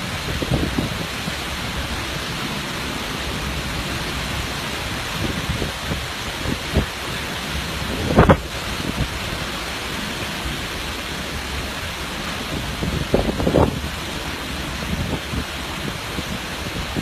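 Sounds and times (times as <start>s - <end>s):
wind and rain rushing: 0.0s - 17.0s.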